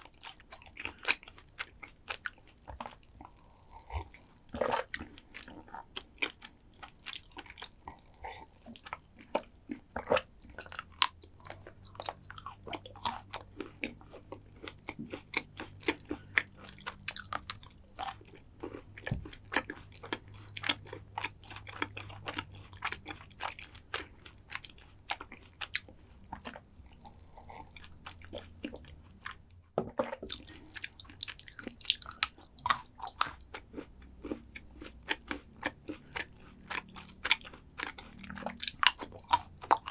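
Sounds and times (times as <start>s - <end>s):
chewing and biting dessert: 0.0s - 39.9s.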